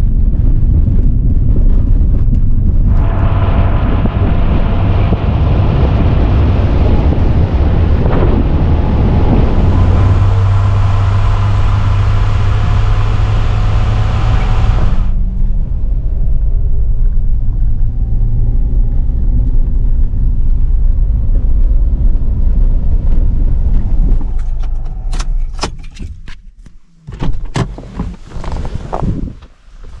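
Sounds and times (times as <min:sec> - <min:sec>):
road noise: 0:00.0 - 0:30.0
vehicle engine hum: 0:00.0 - 0:30.0.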